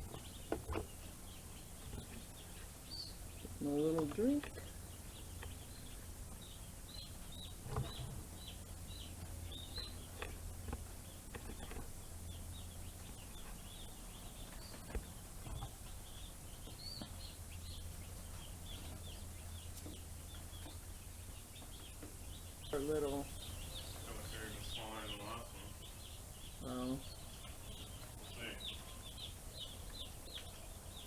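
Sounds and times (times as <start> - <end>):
chicks peeping: 0.0 - 31.0
low steady hum: 0.0 - 31.0.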